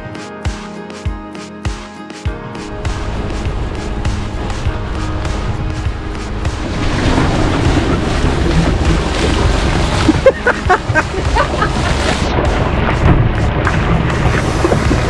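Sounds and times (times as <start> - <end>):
boat running on water: 2.6 - 15.0
wind buffeting microphone: 2.7 - 15.0.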